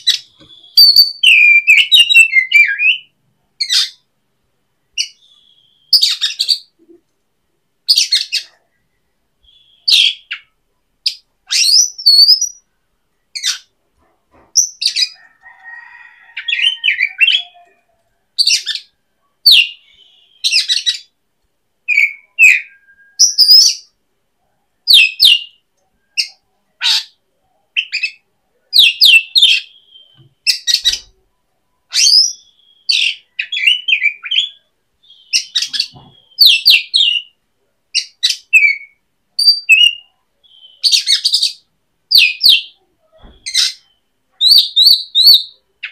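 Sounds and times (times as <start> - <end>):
bird chirping: 0.0 - 4.1, 4.8 - 7.1, 7.8 - 21.2, 21.8 - 45.9.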